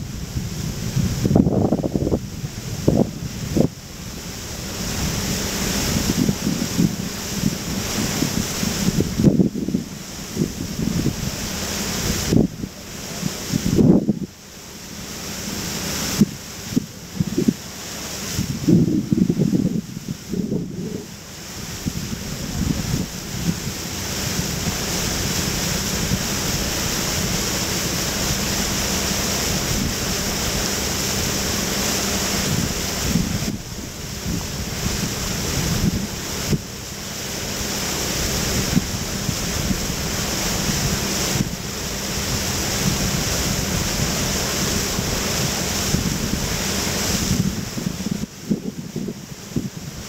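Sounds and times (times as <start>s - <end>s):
water noise: 0.0s - 50.0s
wind on microphone: 0.0s - 50.0s.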